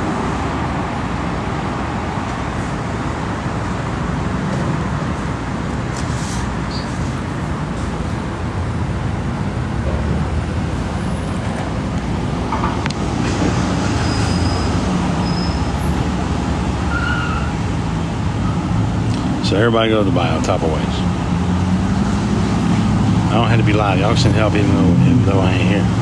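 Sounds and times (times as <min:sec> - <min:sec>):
large vehicle rumble: 0:00.0 - 0:26.0
road traffic passing cars: 0:00.0 - 0:26.0.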